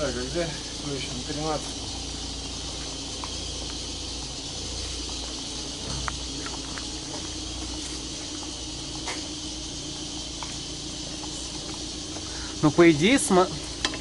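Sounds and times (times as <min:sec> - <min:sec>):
low hum: 0:00.0 - 0:14.0
steady background hiss: 0:00.0 - 0:14.0.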